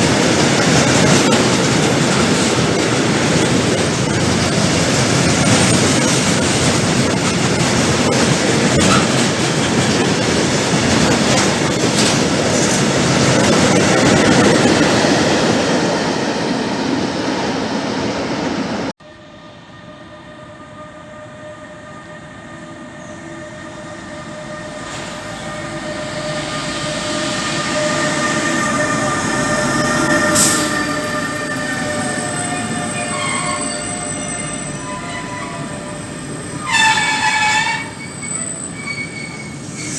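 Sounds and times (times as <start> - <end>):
freight train passing: 0.0 - 39.9
high-pitched train whine: 0.0 - 39.9
train approaching: 0.0 - 39.9.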